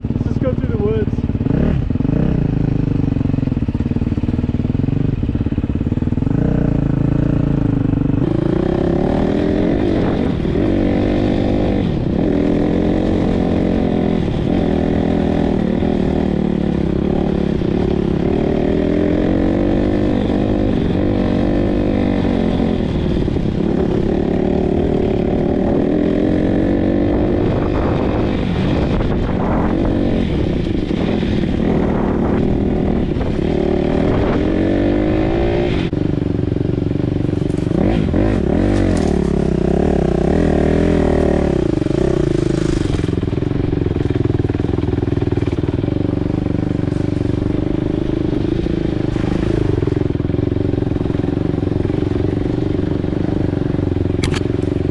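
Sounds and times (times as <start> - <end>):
dirt bike engine revving: 0.1 - 54.9.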